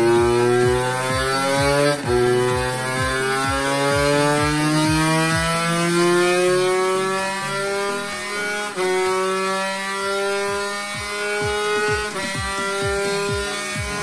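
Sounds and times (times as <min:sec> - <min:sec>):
two-stroke engine at full throttle: 0:00.0 - 0:14.0.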